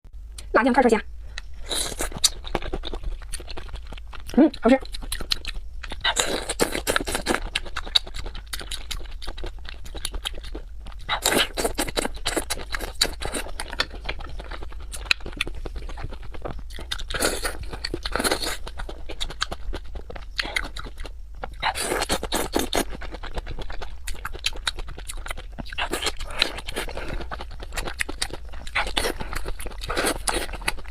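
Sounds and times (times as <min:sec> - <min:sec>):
person chewing crunchy food: 0:01.3 - 0:30.9.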